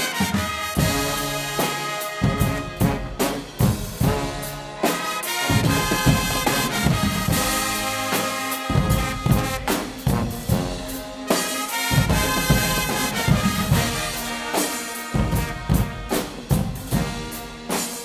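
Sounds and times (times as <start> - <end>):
drums keeping steady beat: 0.0 - 18.0
trumpets and baritone horns: 0.0 - 18.0.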